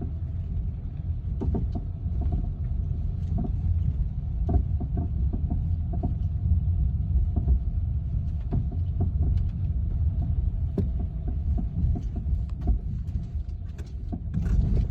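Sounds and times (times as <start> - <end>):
low engine rumble and hum: 0.0 - 14.9
engine knocking: 1.3 - 14.9.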